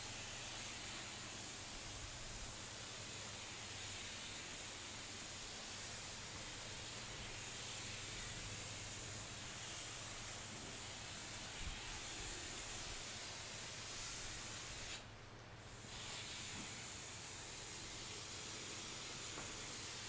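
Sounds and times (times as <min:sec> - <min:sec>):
hose spraying water: 0:00.0 - 0:20.0.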